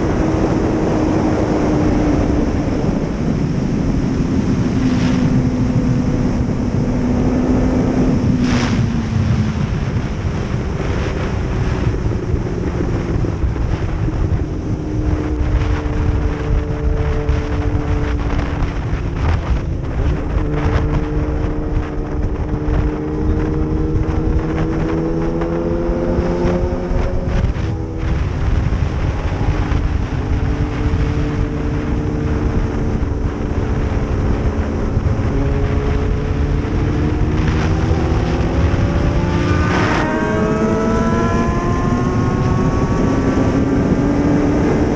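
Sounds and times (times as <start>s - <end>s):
heavy wind noise: 0.0s - 44.9s
motorcycle engine accelerating: 0.0s - 44.9s.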